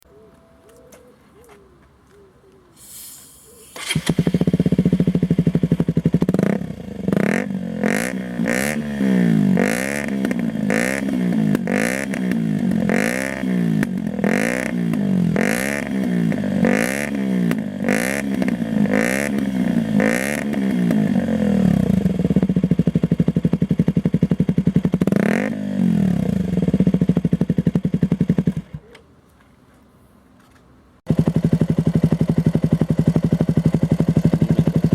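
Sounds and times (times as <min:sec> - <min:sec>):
motorcycle engine idling and revving: 0:03.7 - 0:29.0, 0:31.0 - 0:34.9.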